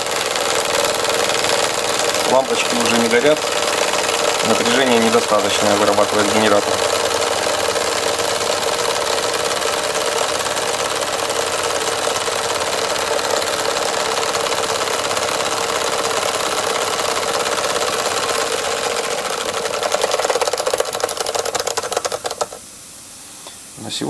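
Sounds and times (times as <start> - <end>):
model steam engine chuffing: 0.0 - 22.6.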